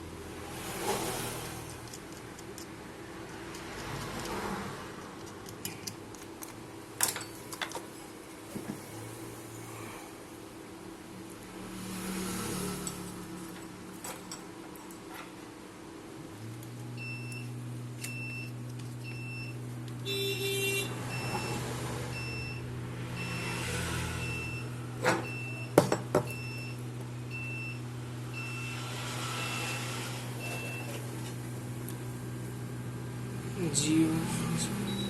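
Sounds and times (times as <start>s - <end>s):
electrical hum: 0.0s - 35.0s.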